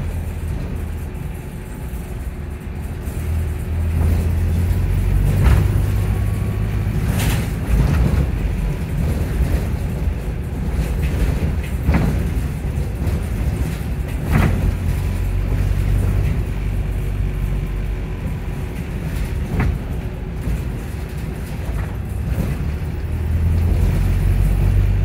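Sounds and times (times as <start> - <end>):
bus drive hum and rumble: 0.0 - 25.0.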